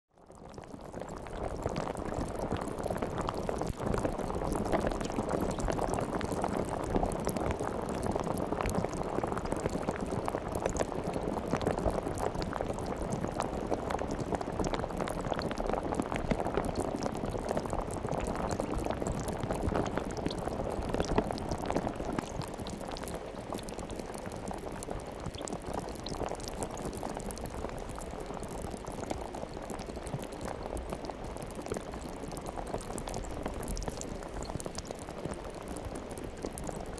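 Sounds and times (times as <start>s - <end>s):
liquid bubbling and fizzing: 0.2s - 36.9s.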